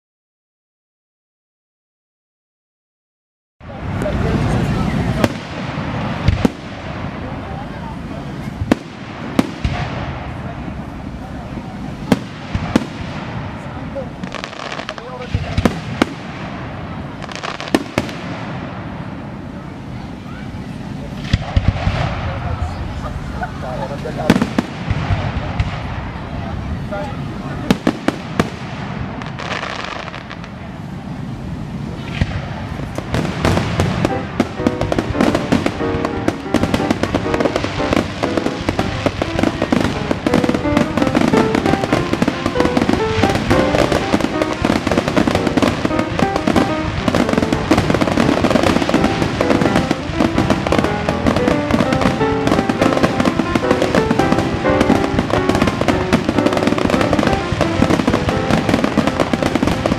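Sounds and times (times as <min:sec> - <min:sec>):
fireworks bangs and crackles: 0:03.6 - 0:59.9.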